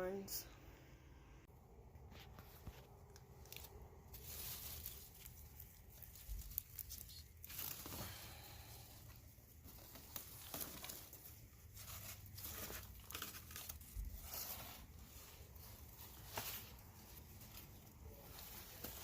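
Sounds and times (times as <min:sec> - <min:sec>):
plant leaves rustling: 0:02.0 - 0:19.0.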